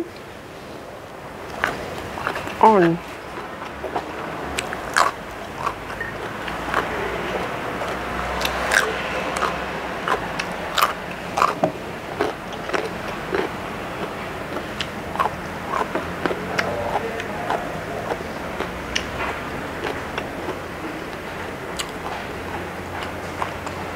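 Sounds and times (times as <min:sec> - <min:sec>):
crunching raw vegetables: 0:01.4 - 0:23.9
wet chewing: 0:01.4 - 0:23.9.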